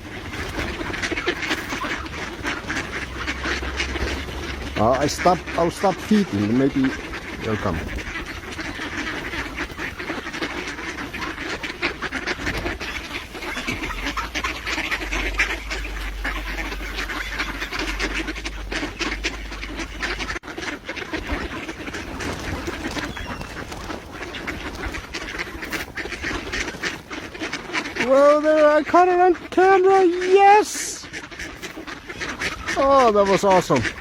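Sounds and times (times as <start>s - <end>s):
clicks and rustles of birds: 0.0s - 34.0s
ducks quacking: 0.0s - 34.0s.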